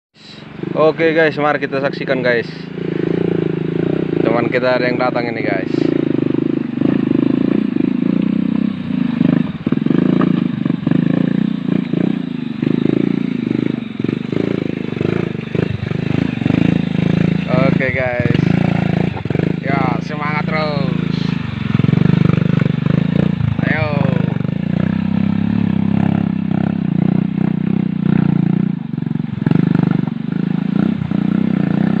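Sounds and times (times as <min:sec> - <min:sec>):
engine running: 0:00.2 - 0:32.0.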